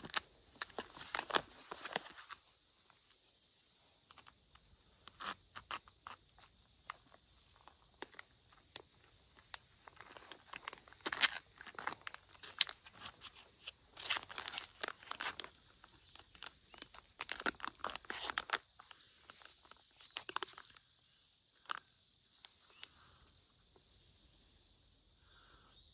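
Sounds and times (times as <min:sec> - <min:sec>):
packet being torn and crinkled: 0:00.0 - 0:03.1, 0:04.1 - 0:21.0, 0:21.6 - 0:22.9.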